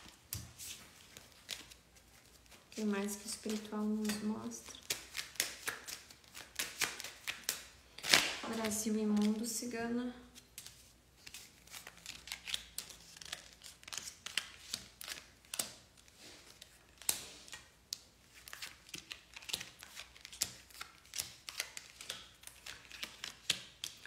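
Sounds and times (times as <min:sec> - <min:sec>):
cards being shuffled: 0:00.0 - 0:09.6, 0:10.3 - 0:24.0.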